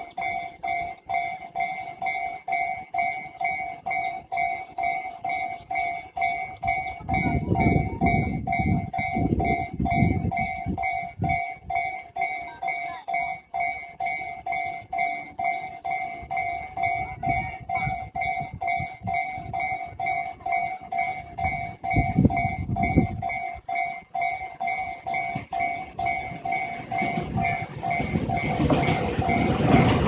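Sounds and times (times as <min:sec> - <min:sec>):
level crossing warning bell: 0:00.0 - 0:30.0
train rumbling past: 0:00.0 - 0:30.0.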